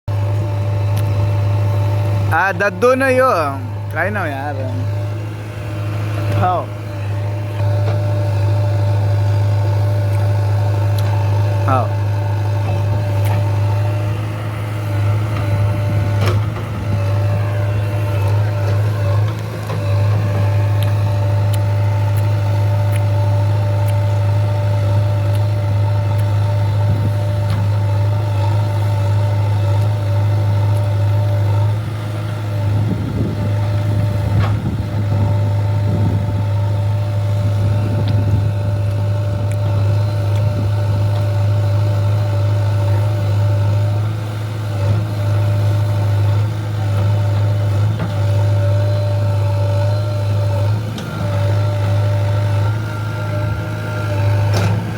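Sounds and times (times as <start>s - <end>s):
diesel engine under load: 0.1s - 54.9s.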